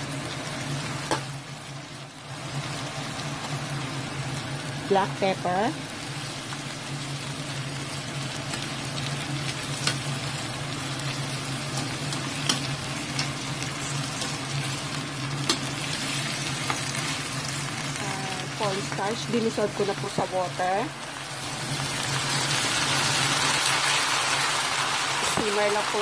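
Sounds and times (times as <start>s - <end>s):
low steady hum: 0.0s - 23.8s
meat sizzling in a frying pan: 0.0s - 26.0s.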